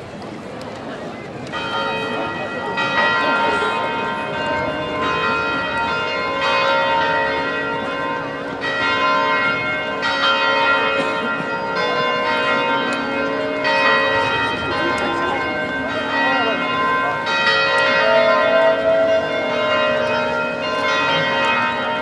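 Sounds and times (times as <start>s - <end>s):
bells ringing: 1.5s - 22.0s.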